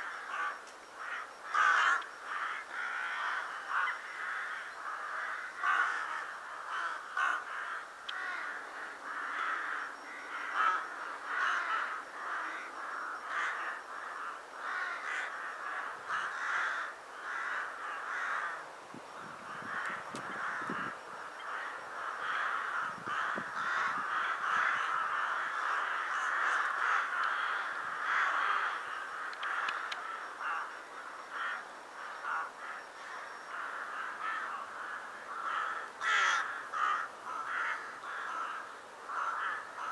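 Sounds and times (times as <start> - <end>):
flock of rooks cawing: 0.0 - 39.9.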